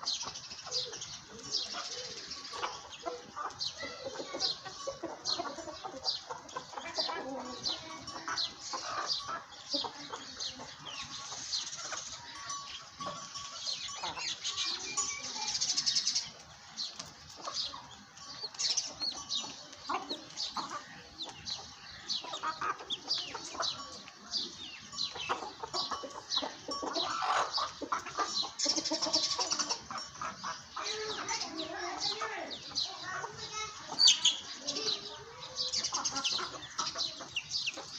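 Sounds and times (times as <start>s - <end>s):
birds chirping chorus: 0.0s - 37.9s.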